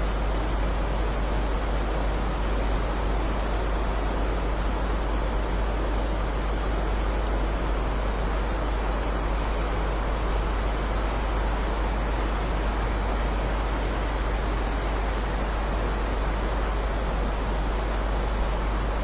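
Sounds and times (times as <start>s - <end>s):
heavy rain hiss: 0.1s - 19.0s.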